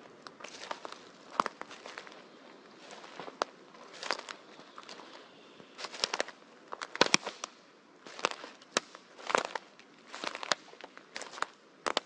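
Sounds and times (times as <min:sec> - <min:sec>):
footsteps on dry leaf litter: 0:00.0 - 0:12.0
twigs snapping underfoot: 0:00.2 - 0:05.2, 0:05.8 - 0:12.0.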